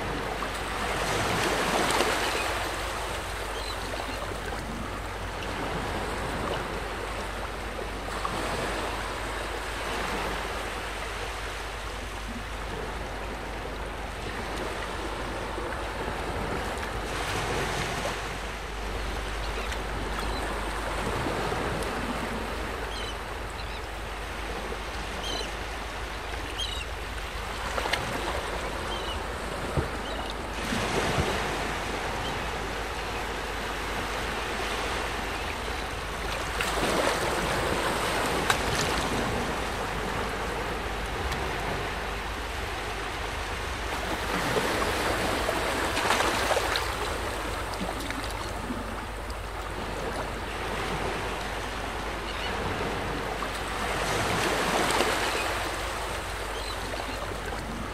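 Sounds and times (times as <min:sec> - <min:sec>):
small waves lapping: 0:00.0 - 0:57.9.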